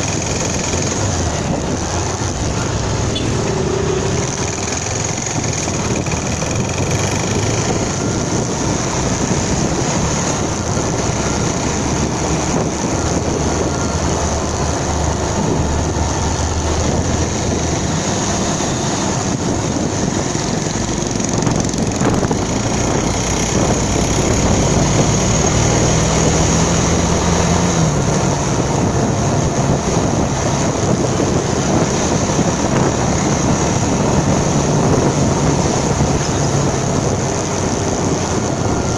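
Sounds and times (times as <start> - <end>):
motorcycle engine running: 0.0 - 38.9
steady rush of noise: 0.0 - 38.9.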